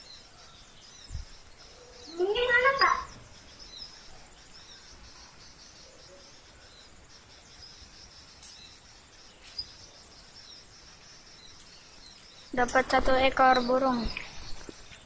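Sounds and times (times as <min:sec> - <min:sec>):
small birds twittering: 0:00.0 - 0:15.0.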